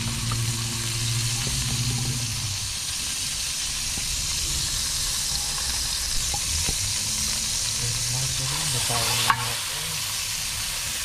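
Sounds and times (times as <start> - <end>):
fat sizzling in a hot wok: 0.0 - 11.0
low steady hum: 0.0 - 11.0.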